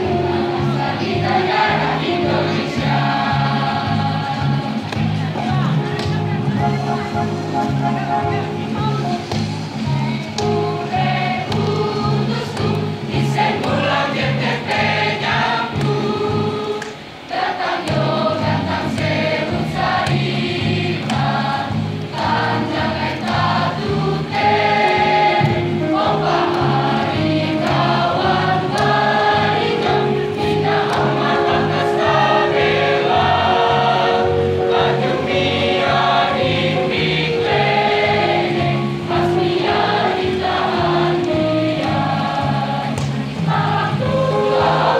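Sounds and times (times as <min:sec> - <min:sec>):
choir singing into microphones: 0:00.0 - 0:06.4, 0:07.6 - 0:44.9.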